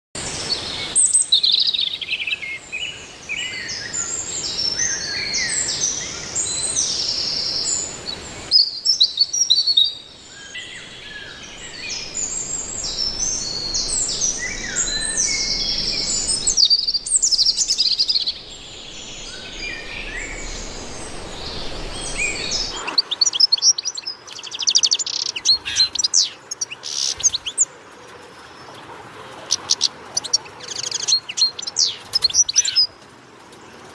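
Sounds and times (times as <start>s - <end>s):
birds chirping and singing: 0.4s - 33.0s.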